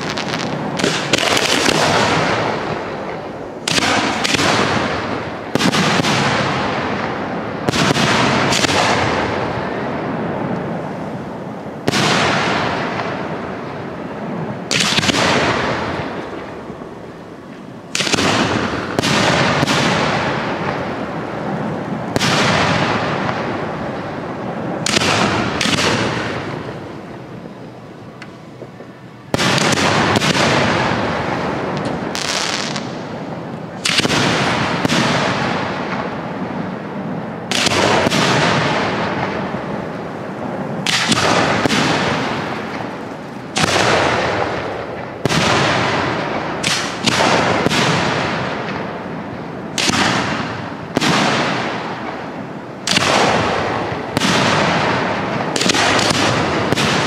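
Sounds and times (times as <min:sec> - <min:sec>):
fireworks bursting with echo: 0:00.0 - 0:57.0.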